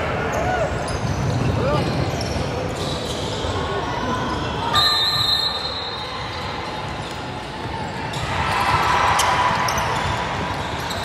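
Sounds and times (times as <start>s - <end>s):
hubbub of players and onlookers: 0.0s - 11.0s.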